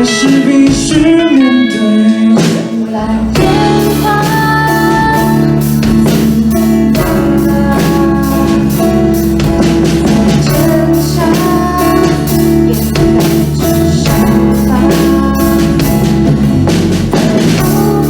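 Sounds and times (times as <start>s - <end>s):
steady drum beat: 0.0s - 1.4s, 2.1s - 18.0s
live band playing pop-rock: 0.0s - 18.0s.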